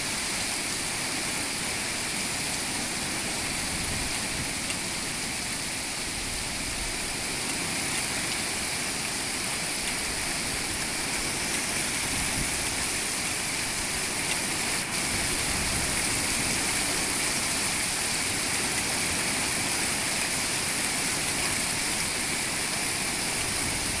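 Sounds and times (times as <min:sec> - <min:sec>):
rain and hail pouring: 0:00.0 - 0:24.0.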